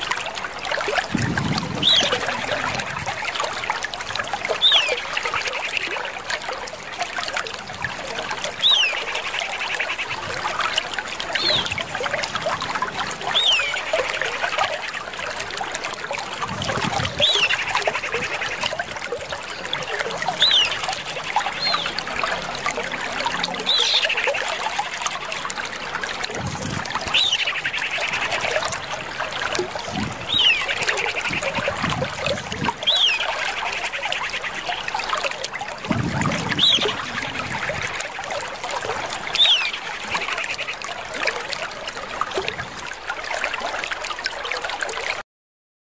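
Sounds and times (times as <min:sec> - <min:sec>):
trickling water: 0:00.0 - 0:45.2.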